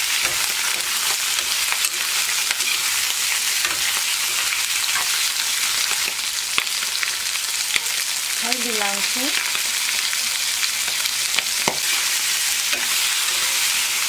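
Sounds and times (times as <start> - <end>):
meat and onions sizzling: 0.0 - 14.0.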